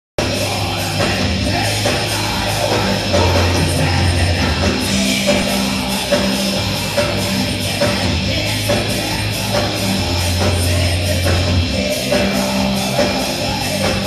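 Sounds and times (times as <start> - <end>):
bass guitar: 0.2 - 14.0
distorted electric guitars: 0.2 - 14.0
drums: 0.2 - 14.0
person singing: 0.2 - 14.0.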